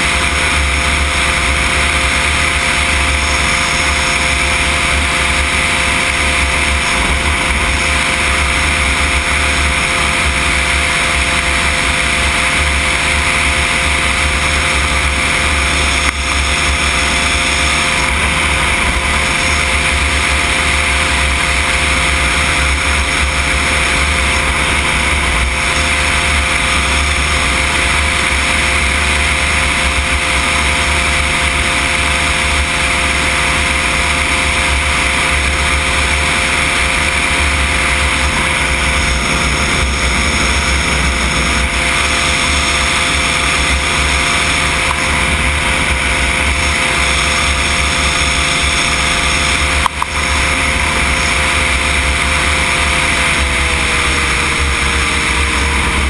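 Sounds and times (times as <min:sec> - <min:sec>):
microlight engine droning: 0:00.0 - 0:56.0.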